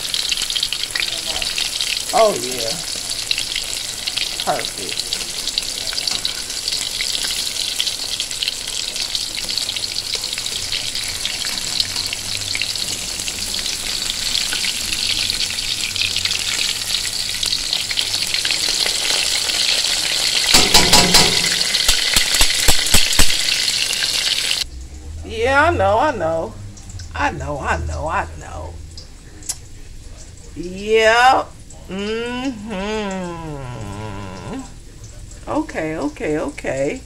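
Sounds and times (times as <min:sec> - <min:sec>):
fish frying in oil: 0:00.0 - 0:31.9, 0:33.1 - 0:37.0.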